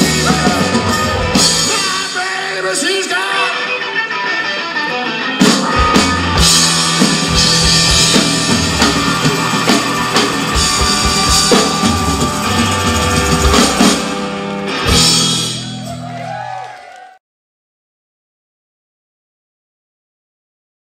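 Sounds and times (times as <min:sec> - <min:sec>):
live rock band playing: 0:00.0 - 0:16.8.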